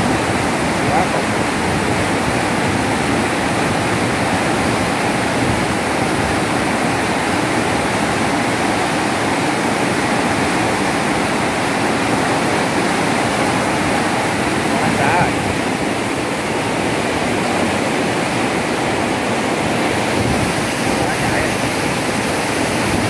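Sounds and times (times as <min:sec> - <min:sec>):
water rushing through sluice: 0:00.0 - 0:23.0.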